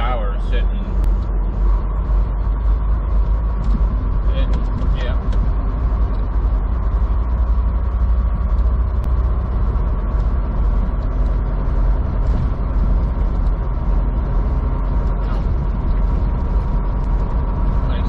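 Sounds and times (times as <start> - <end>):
road noise: 0.0 - 18.0
truck diesel engine drone: 0.0 - 18.0.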